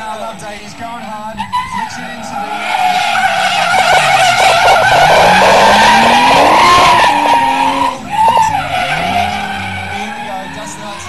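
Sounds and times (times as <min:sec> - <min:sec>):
car engine revving: 0:00.0 - 0:11.0
tyres squealing: 0:00.0 - 0:11.0.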